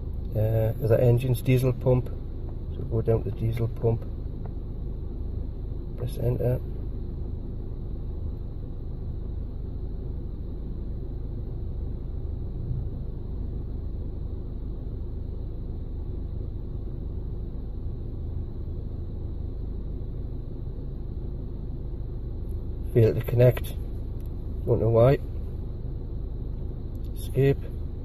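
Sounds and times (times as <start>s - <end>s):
low rumble inside car cabin: 0.0s - 28.0s.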